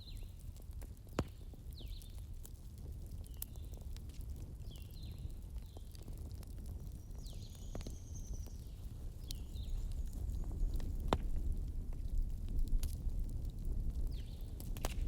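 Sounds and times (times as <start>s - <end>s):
fire crackling and popping: 0.0s - 15.0s
rumble of flames: 0.0s - 15.0s.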